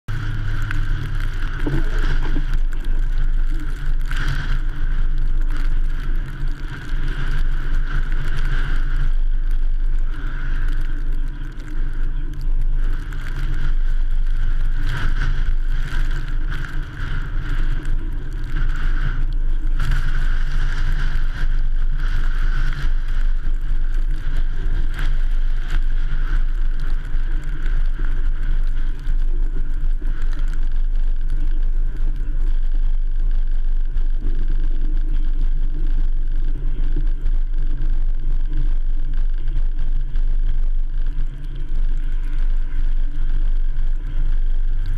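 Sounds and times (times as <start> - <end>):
engine and road rumble: 0.0 - 44.9.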